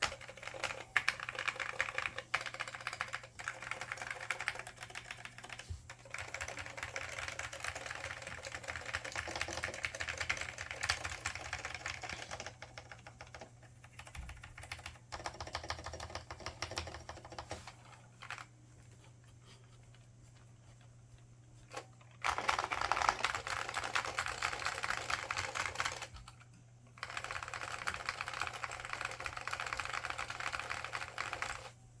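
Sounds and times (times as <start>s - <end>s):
keyboard typing: 0.0s - 18.5s, 21.7s - 26.4s, 27.0s - 31.7s.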